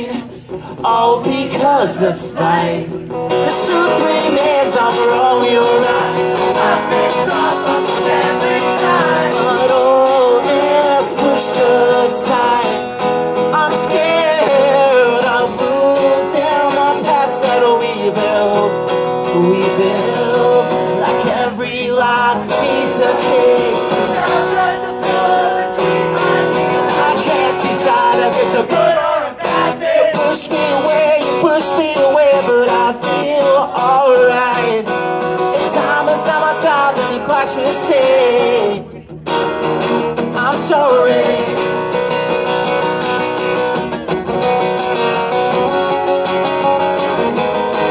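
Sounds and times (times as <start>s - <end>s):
man singing: 0.0s - 43.4s
acoustic guitar strumming: 0.0s - 47.9s.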